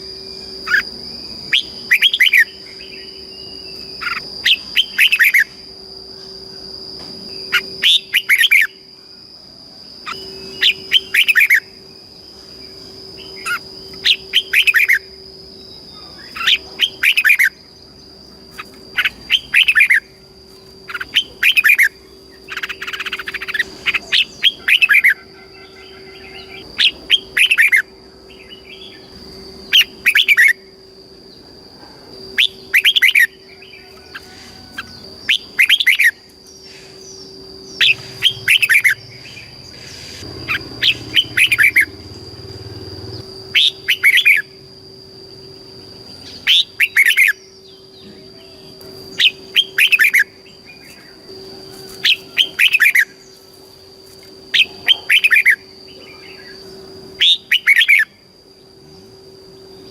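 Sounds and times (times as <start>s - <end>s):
bulbul singing: 0.0s - 8.9s, 10.0s - 59.9s
steady high-pitched whine: 0.0s - 59.9s.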